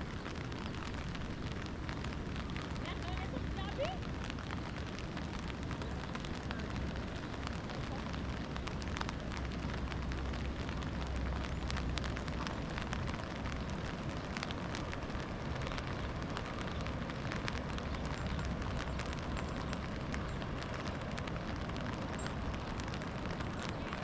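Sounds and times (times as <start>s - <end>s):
rain hiss with drop ticks: 0.0s - 24.0s.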